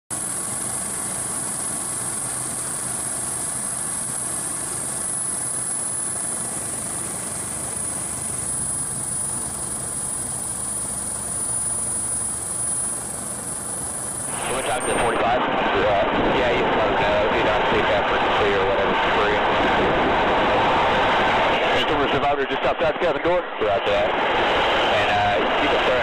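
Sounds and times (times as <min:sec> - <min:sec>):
helicopter engine and rotor rumble: 0:00.1 - 0:26.0
high-pitched whine: 0:00.1 - 0:26.0.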